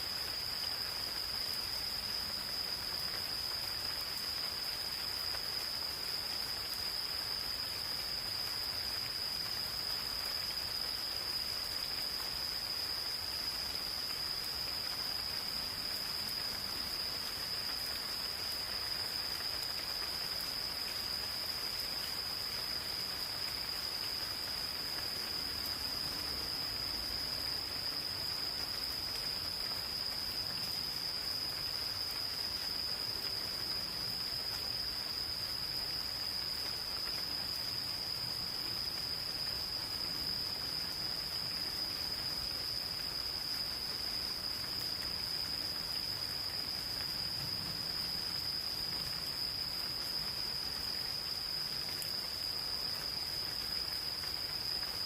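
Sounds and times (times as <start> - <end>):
gentle rain hiss: 0.0 - 55.0
insects trilling: 0.0 - 55.0.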